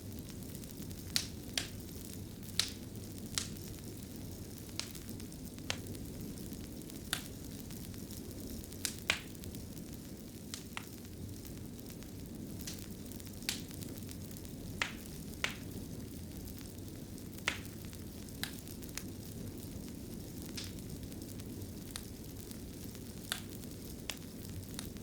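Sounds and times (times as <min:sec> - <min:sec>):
sharp fire pops: 0:00.0 - 0:25.0
wood fire crackling: 0:00.0 - 0:25.0.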